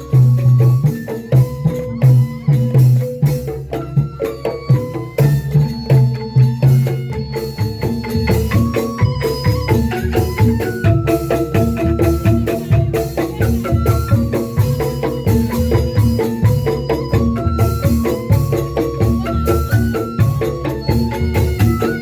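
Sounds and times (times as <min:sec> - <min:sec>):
steady drum beats: 0:00.0 - 0:22.0
tuned percussion melody: 0:00.0 - 0:22.0.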